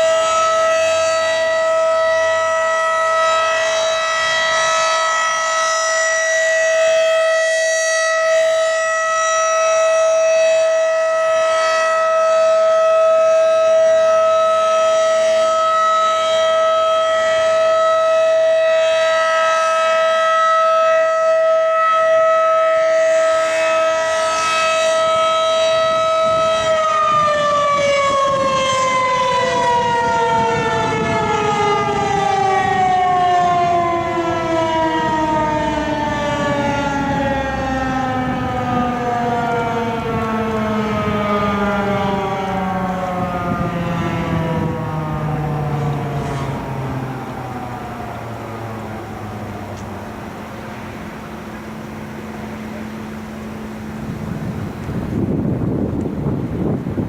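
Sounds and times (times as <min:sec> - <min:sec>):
warning siren steady tone: 0:00.0 - 0:57.0.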